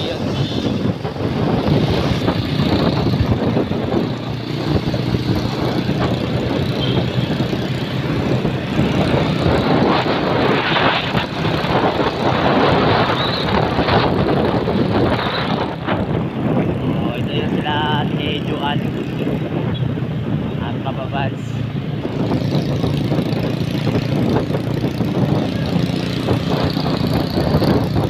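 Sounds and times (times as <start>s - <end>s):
motorcycle engine running: 0.0s - 19.4s, 21.9s - 28.0s
wind and road noise: 0.0s - 28.0s.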